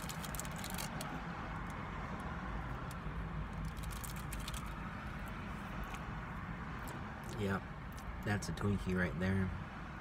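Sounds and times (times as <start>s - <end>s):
low rumble inside car: 0.0s - 10.0s.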